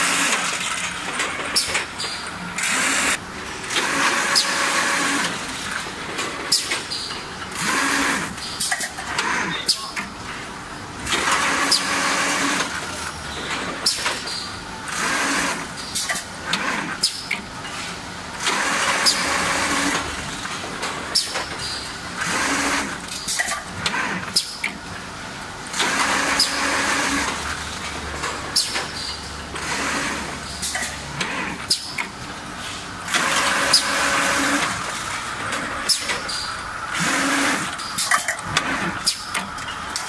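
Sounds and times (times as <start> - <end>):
laminating machine running: 0.0 - 17.6, 18.2 - 40.0.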